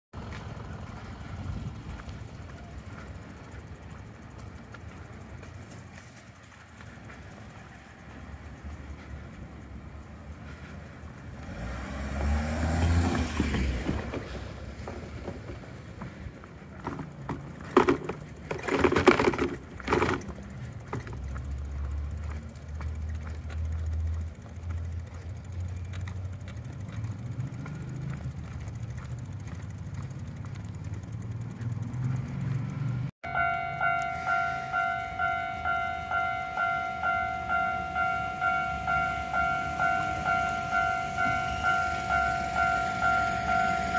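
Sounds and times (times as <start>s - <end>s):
street traffic rumble: 0.1s - 43.9s
level-crossing warning bell ringing: 0.2s - 13.0s, 14.6s - 43.9s
vehicle passing: 7.5s - 43.9s.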